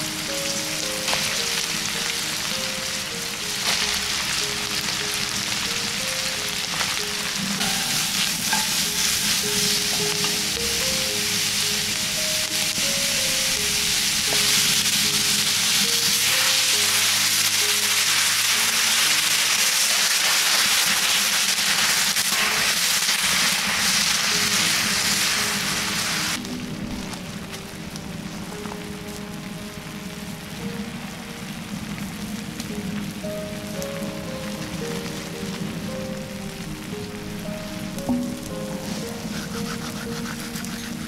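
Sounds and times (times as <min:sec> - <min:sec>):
quiet melody: 0:00.0 - 0:21.5, 0:23.6 - 0:41.0
vegetables sizzling in oil: 0:00.0 - 0:41.0.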